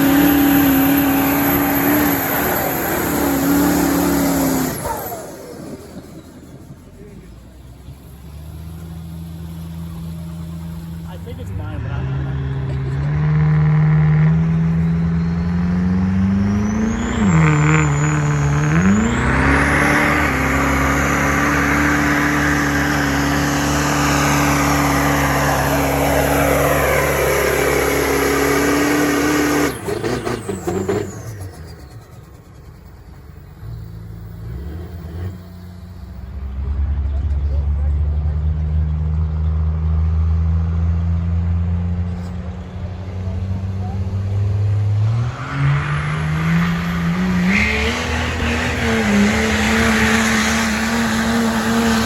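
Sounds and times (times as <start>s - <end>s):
diesel truck engine revving: 0.0s - 52.0s.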